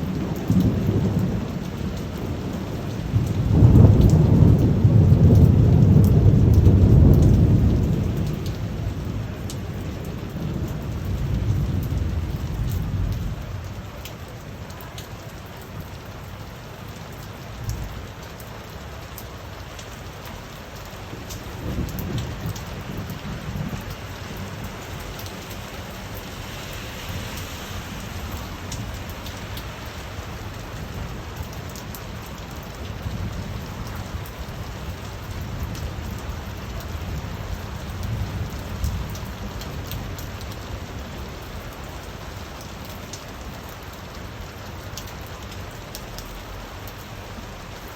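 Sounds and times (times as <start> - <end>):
rain falling: 0.0 - 47.9
raindrops ticking on hard surfaces: 0.0 - 47.9.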